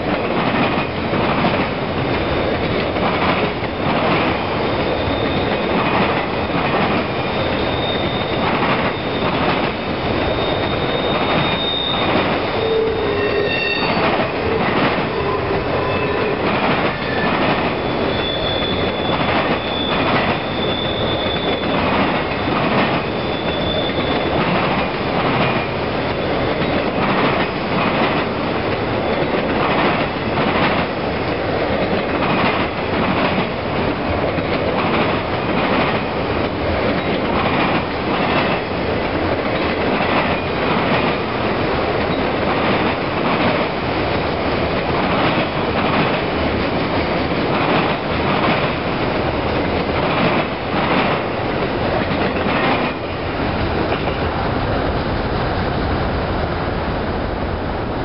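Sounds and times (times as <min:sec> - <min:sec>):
train rail rumble: 0:00.0 - 0:58.0.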